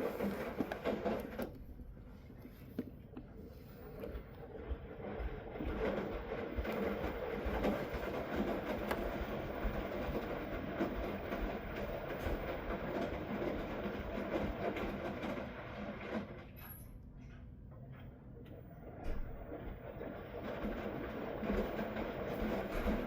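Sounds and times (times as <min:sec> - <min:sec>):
washing machine churning water: 0:00.0 - 0:23.0.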